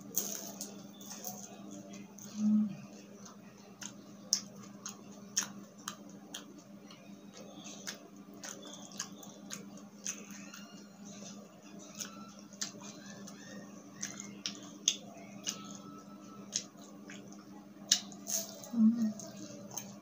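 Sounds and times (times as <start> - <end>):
crunchy chewing: 0.0 - 20.0
steady low hum: 0.0 - 20.0.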